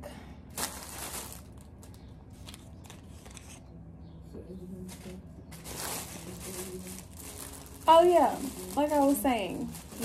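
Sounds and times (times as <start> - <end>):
plastic bags rustling and crinkling: 0.5 - 3.6, 4.9 - 10.0.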